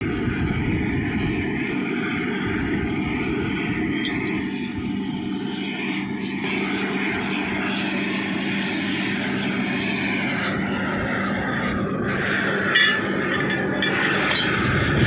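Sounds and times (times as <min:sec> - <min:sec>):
motor humming: 0:00.1 - 0:15.0.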